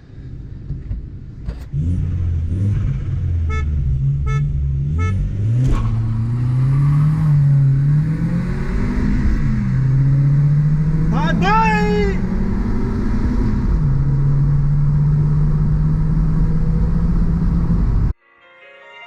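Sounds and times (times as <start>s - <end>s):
car engine accelerating: 0.4s - 18.2s.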